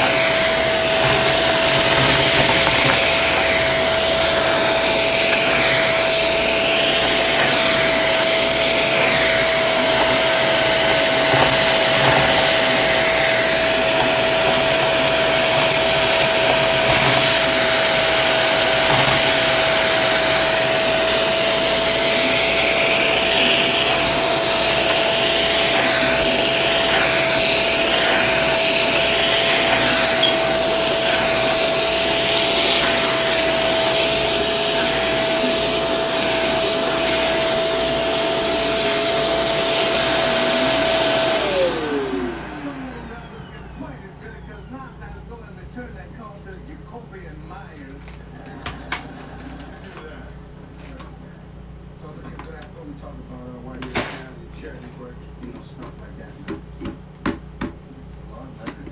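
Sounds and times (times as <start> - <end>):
vacuum cleaner whining: 0.0 - 58.9.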